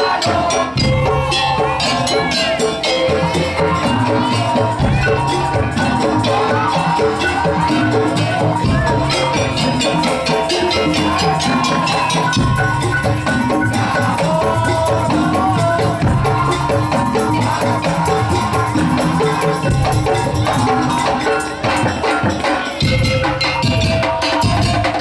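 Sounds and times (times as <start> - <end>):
held melody line: 0.0 - 24.4
fast struck percussion rhythm: 0.0 - 25.0.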